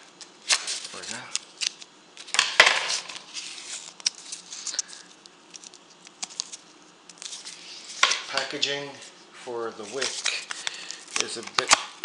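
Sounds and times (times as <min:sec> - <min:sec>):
packaging rustling and crinkling: 0:00.2 - 0:08.5, 0:09.8 - 0:11.9.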